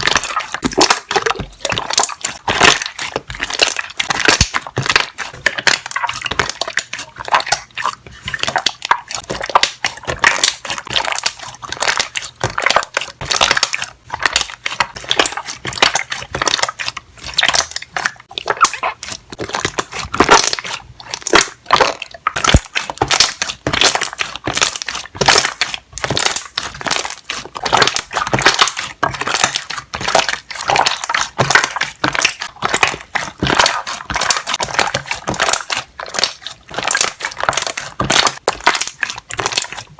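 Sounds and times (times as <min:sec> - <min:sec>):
slime bubbles popping: 0:00.0 - 0:39.9.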